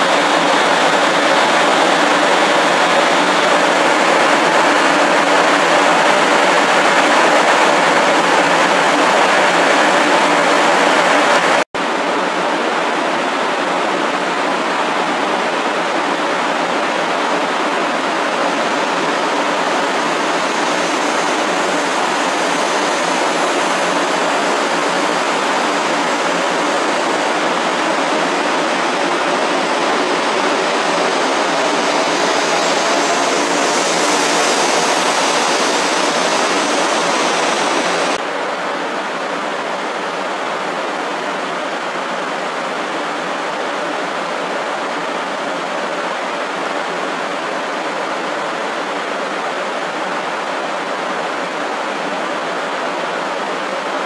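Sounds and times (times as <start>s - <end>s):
train rushing noise: 0.0s - 54.0s.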